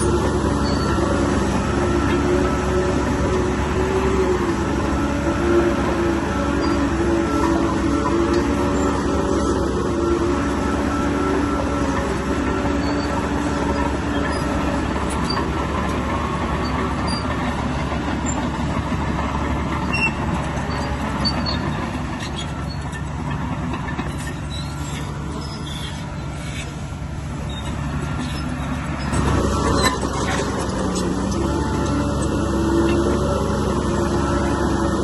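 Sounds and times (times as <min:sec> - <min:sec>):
bulldozer diesel engine under load: 0:00.0 - 0:35.0
steel tracks grinding: 0:00.0 - 0:35.0.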